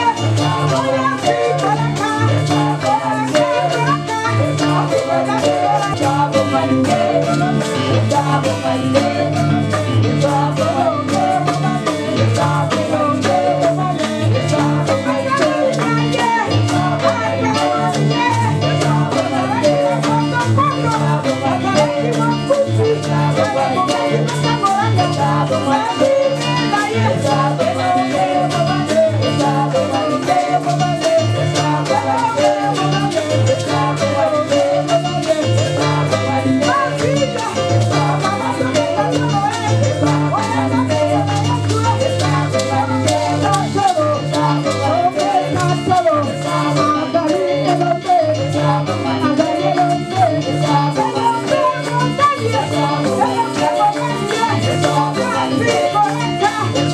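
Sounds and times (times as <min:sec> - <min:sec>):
backing singers: 0:00.0 - 0:56.9
band playing gospel music: 0:00.0 - 0:56.9
woman singing into microphone: 0:00.0 - 0:56.9.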